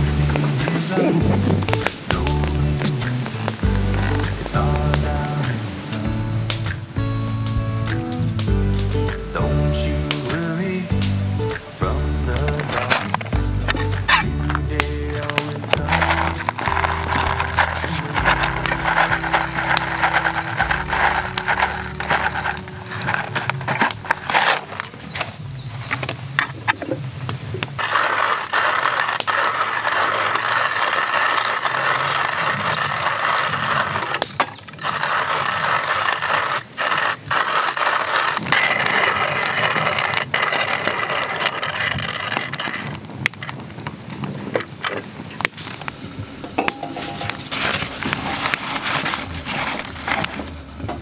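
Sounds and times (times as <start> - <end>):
hand coffee mill grinding beans: 0.0 - 5.7, 12.3 - 51.0.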